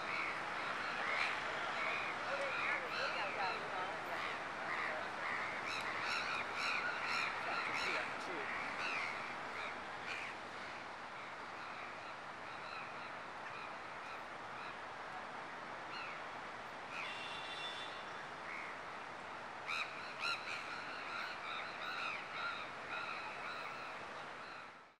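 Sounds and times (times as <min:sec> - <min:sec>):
steady background hiss: 0:00.0 - 0:24.9.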